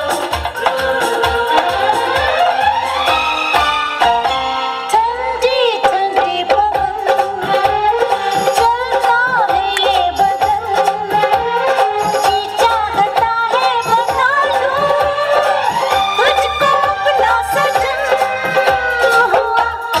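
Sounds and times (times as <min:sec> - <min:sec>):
percussion beat: 0:00.0 - 0:04.4, 0:05.8 - 0:20.0.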